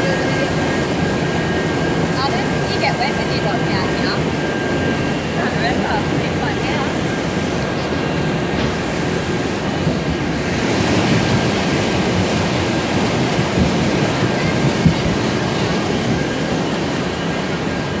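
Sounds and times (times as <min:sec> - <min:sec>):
water rushing and churning: 0:00.0 - 0:18.0.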